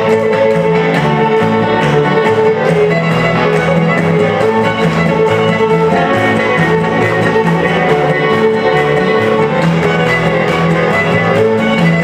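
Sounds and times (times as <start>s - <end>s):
acoustic guitar: 0.0s - 12.0s
electric guitar: 0.0s - 12.0s
fiddle: 0.0s - 12.0s
plucked upright bass: 0.0s - 12.0s.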